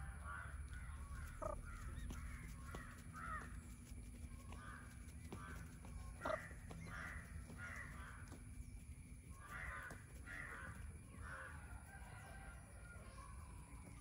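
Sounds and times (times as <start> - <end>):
harsh caw-like bird calls: 0.0 - 14.0.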